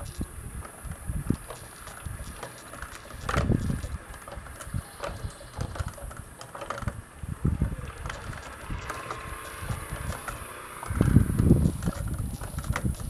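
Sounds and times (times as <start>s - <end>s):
low rumbles: 0.0s - 13.0s
wooden gears clicking and knocking: 0.0s - 13.0s.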